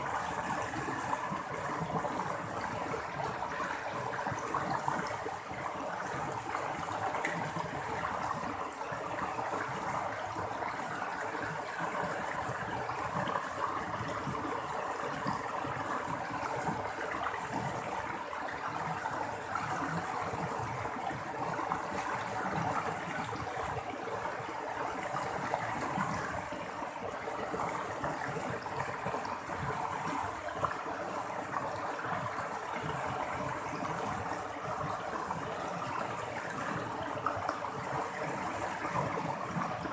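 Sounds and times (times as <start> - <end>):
water babbling and splashing: 0.0 - 39.9.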